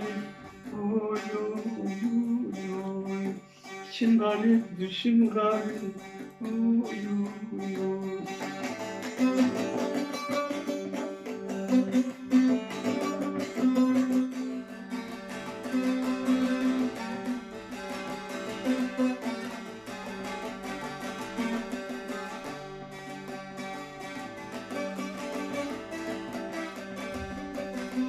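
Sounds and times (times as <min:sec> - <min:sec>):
plucked long-necked lute: 0:00.0 - 0:28.0.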